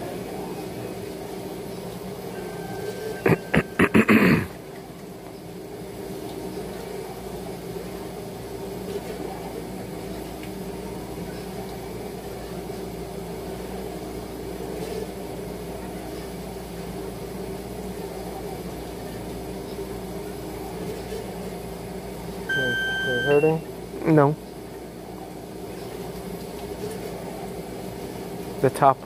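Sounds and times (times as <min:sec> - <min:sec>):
low machine hum: 0:00.0 - 0:29.0.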